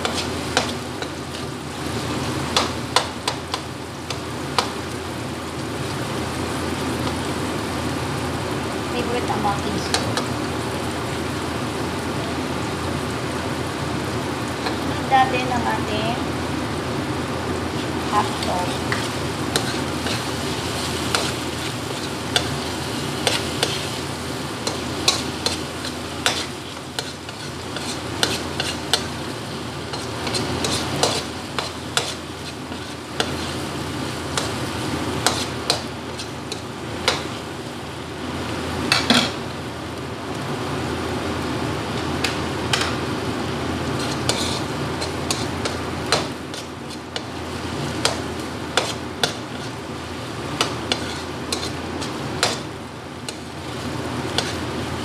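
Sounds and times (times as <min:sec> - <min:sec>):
food sizzling: 0:00.0 - 0:55.0.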